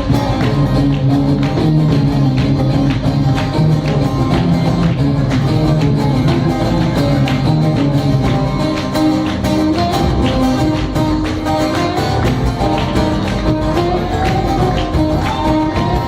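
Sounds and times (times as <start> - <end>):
hand percussion beat: 0.0 - 16.0
plucked string instruments: 0.0 - 16.0.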